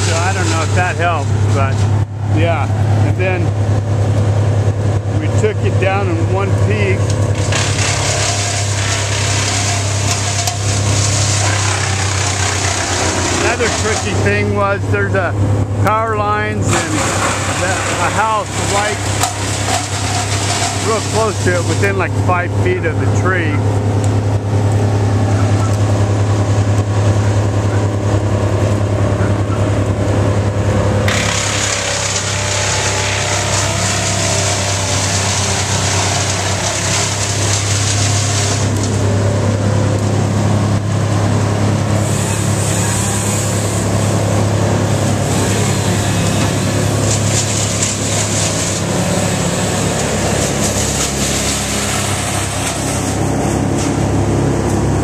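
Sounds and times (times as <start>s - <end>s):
large engine humming: 0.0s - 55.0s.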